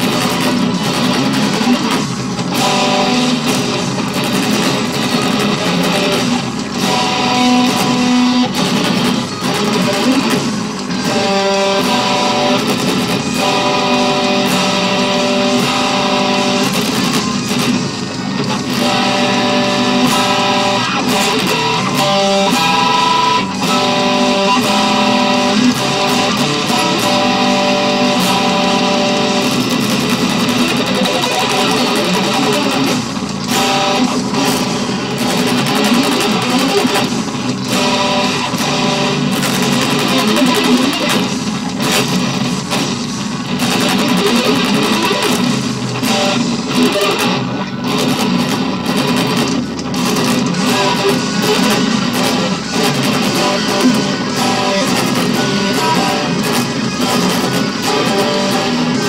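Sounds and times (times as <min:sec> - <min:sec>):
electric guitar metal instrumental: 0:00.0 - 0:59.0.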